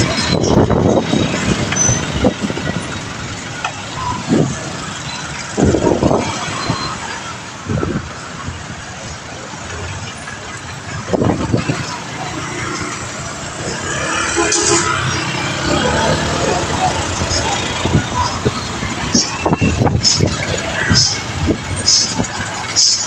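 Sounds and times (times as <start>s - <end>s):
busy street traffic: 0.0s - 23.0s.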